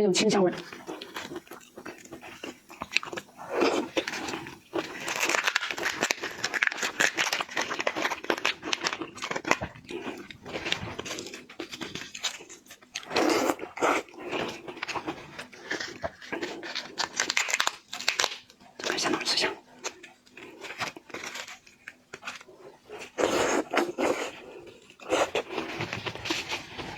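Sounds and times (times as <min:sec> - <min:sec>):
person chewing seafood: 0:00.6 - 0:26.9.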